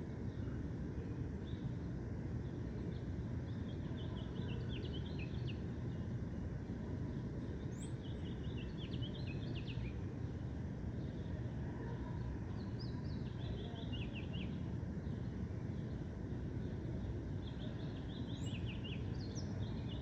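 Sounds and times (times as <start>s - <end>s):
low background rumble: 0.0s - 20.0s
songbirds chirping: 0.0s - 20.0s.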